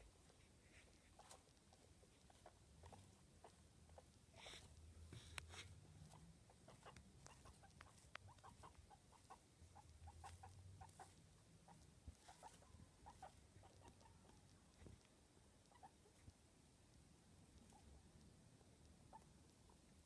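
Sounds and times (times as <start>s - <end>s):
guinea pig squeaks: 0.0s - 15.0s, 15.6s - 16.3s, 17.5s - 18.0s, 19.0s - 20.0s.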